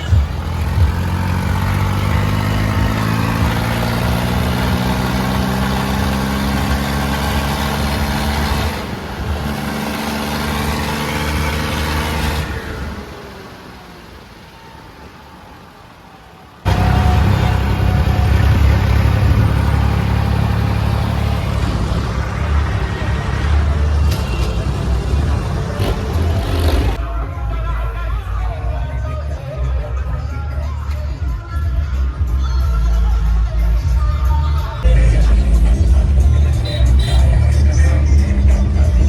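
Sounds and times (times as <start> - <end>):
tractor engine revving: 0.0 - 28.6, 34.6 - 39.0.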